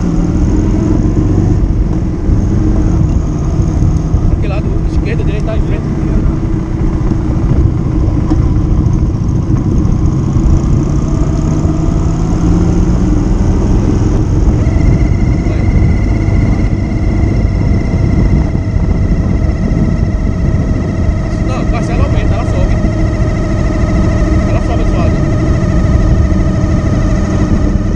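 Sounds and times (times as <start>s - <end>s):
motorcycle engine rumbling: 0.0s - 27.9s
steady high whine: 0.0s - 27.9s.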